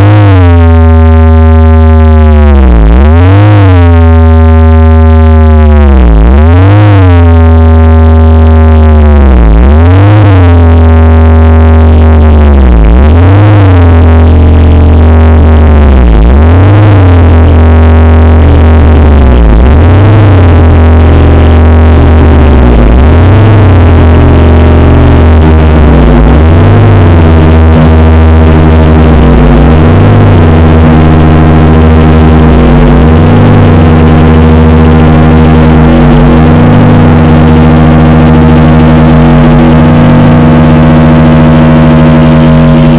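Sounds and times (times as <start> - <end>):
low synthesized hum: 0.0 - 42.9
steady high tone: 0.0 - 42.9
swooping synthesized tones: 0.0 - 42.9.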